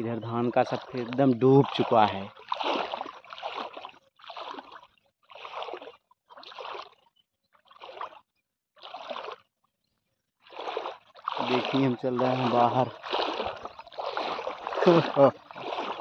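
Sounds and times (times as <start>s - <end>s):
footsteps splashing in water: 0.0s - 16.0s.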